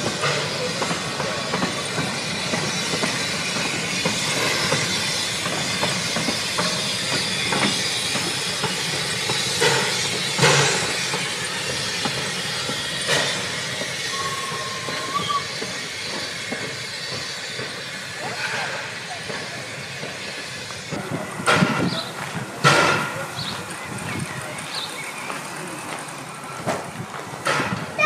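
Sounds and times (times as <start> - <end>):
hiss of steam: 0.0 - 28.0
train wheels clicking on track: 0.0 - 28.0.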